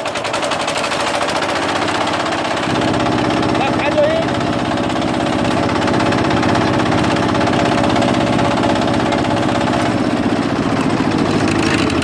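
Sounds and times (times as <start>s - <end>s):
diesel tiller engine chugging: 0.0s - 12.0s.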